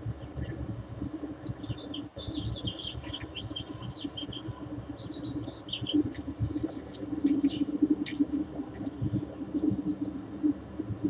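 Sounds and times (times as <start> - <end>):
steady low rumble: 0.0 - 11.0
small birds chirping: 0.2 - 10.6.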